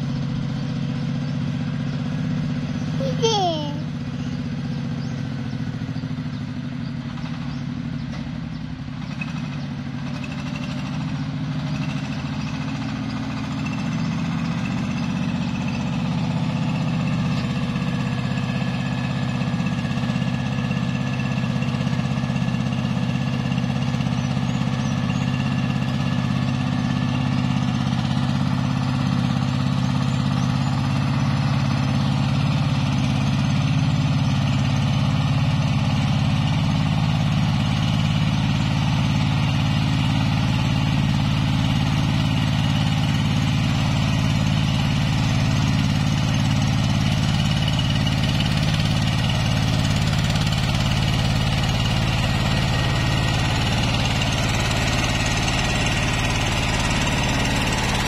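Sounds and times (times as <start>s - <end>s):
dumper engine droning: 0.0s - 58.0s.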